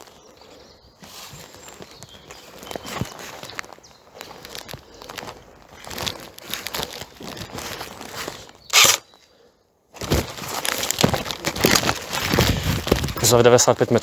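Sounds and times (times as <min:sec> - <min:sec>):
rustle against microphone: 0:00.0 - 0:08.9, 0:10.0 - 0:14.0
footsteps crunching dry leaves: 0:00.0 - 0:09.1, 0:10.0 - 0:14.0.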